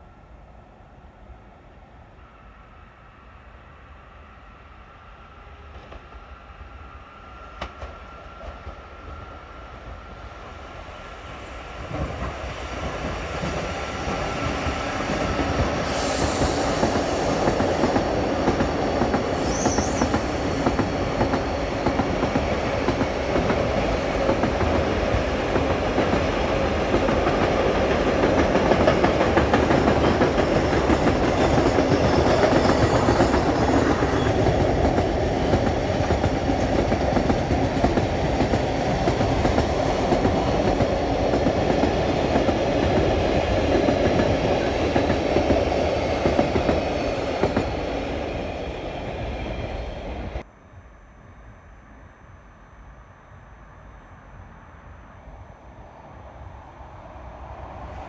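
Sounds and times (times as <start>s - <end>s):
freight train rumble: 0.0s - 50.5s.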